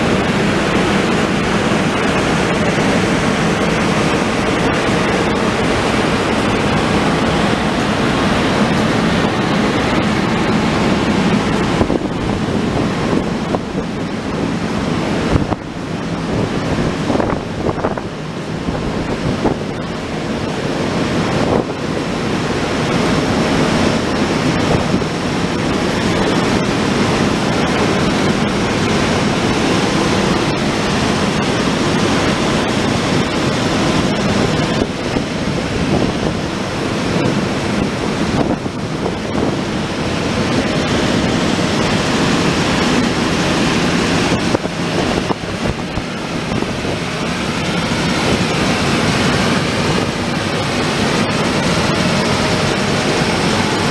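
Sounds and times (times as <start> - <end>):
locomotive cooling blowers rushing: 0.0 - 53.9.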